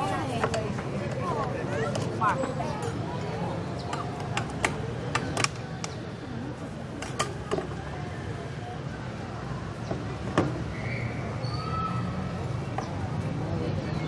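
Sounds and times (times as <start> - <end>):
murmur of people talking: 0.0 - 14.0.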